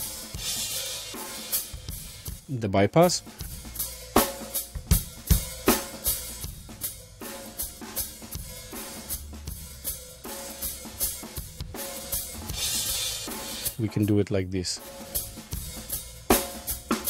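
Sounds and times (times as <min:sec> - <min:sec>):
drum kit playing steady beat: 0:00.0 - 0:17.0.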